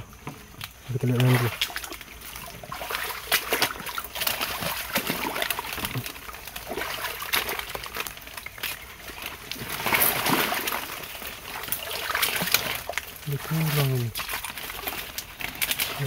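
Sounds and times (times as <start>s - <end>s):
leaves rustling: 0.0s - 16.0s
wading through shallow water: 0.0s - 16.0s.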